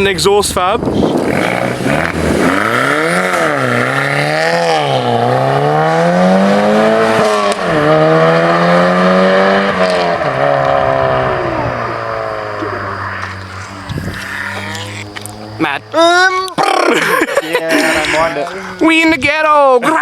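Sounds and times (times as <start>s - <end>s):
car engine revving: 0.9s - 17.2s.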